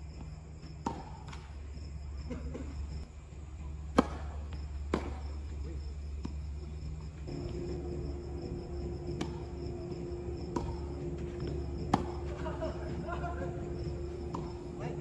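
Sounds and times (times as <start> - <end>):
insects chirring: 0.0 - 15.0
low hum: 0.0 - 15.0
tennis balls struck by racquets: 0.2 - 15.0.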